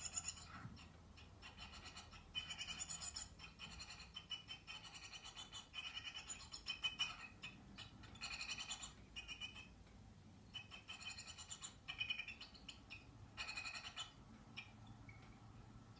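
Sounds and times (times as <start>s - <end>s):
nestlings chirping through speaker: 0.0s - 9.8s, 10.5s - 15.2s.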